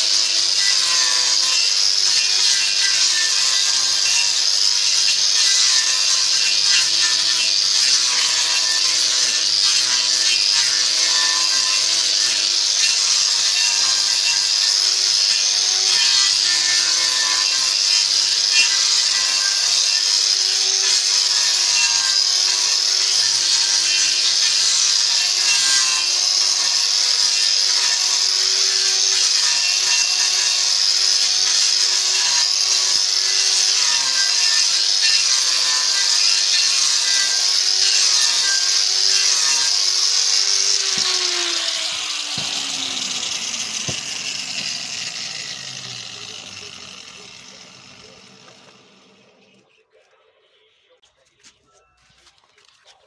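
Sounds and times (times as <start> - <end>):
power saw cutting wood: 0.0 - 49.7.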